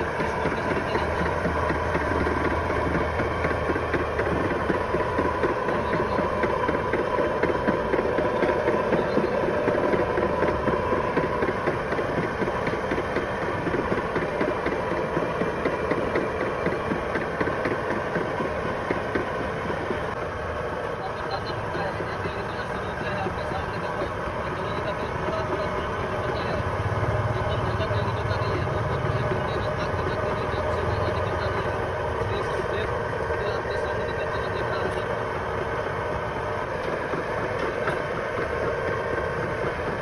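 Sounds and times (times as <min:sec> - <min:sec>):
oil mill mechanical hum: 0:00.0 - 0:40.0.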